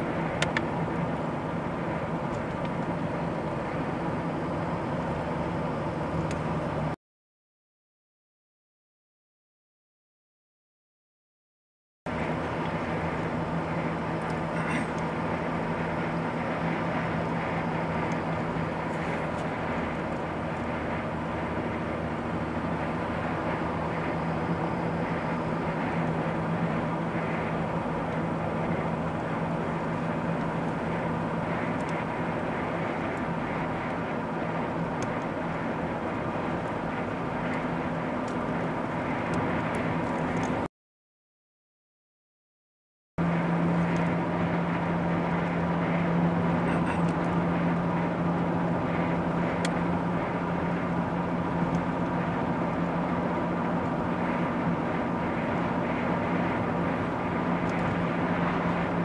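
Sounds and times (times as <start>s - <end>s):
car engine and tyre road noise: 0.0s - 7.0s, 12.1s - 40.7s, 43.2s - 59.0s.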